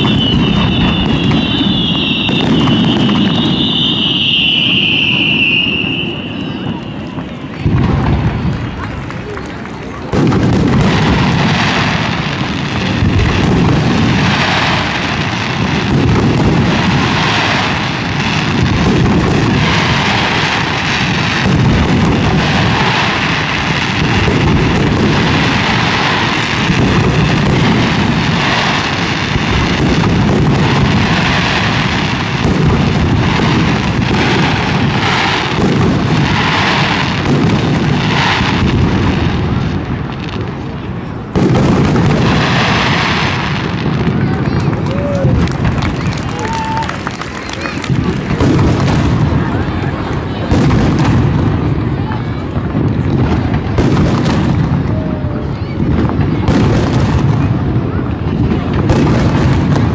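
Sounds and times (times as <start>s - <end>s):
firework shells bursting: 0.0s - 39.1s, 41.3s - 51.3s.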